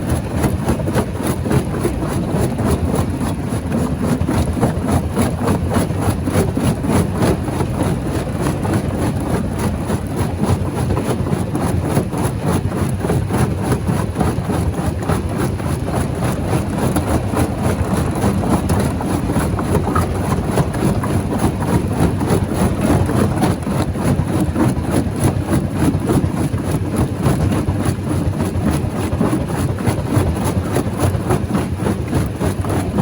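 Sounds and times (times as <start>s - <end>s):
rock crusher rumbling: 0.0s - 33.0s.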